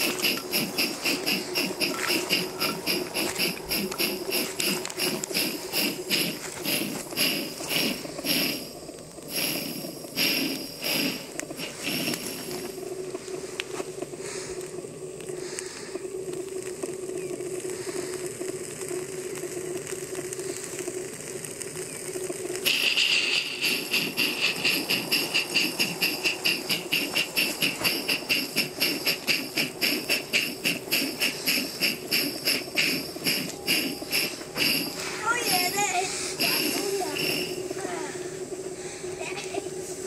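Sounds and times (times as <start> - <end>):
model steam locomotive chuffing: 0.0 - 21.0, 21.7 - 40.0
steady hum: 0.0 - 40.0
steam hiss: 0.0 - 40.0.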